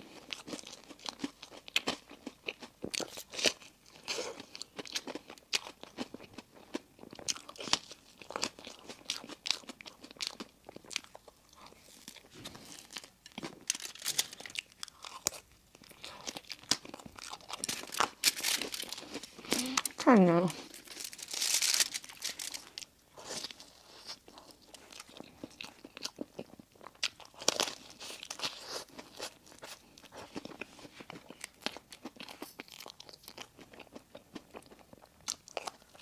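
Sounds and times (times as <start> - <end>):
chewing crunchy food: 0.0 - 36.0.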